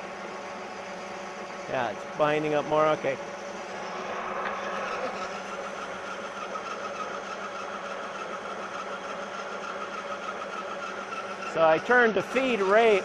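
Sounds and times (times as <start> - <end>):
lathe humming with faint whine: 0.0 - 13.0.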